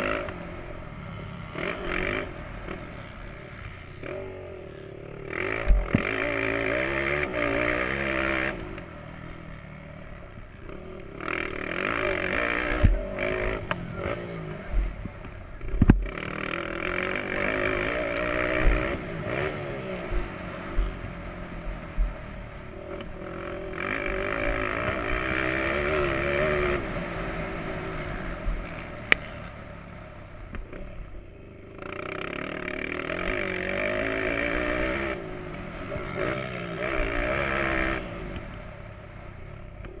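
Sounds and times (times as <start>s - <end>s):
motocross bike engine revving: 0.0s - 40.0s.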